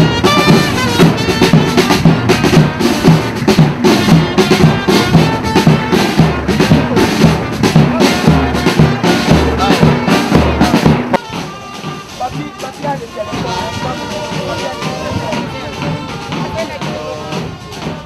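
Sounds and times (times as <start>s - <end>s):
brass band playing a slow march: 0.0s - 18.0s.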